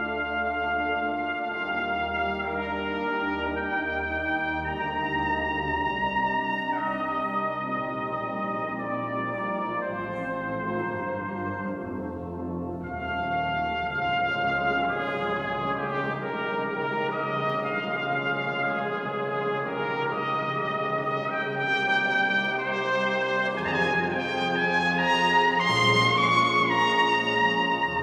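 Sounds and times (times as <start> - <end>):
brass band sustaining chords: 0.0 - 28.0
cornet solo melody: 0.0 - 28.0.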